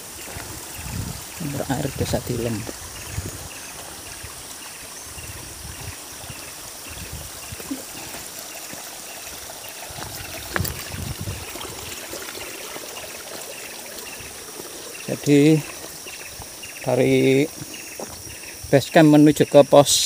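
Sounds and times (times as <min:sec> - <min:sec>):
spring water trickling: 0:00.0 - 0:19.4.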